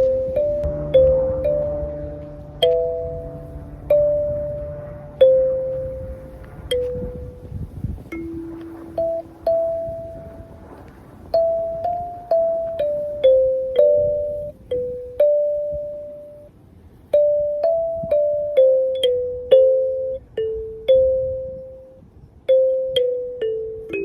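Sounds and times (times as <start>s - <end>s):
kalimba melody: 0.0s - 24.0s.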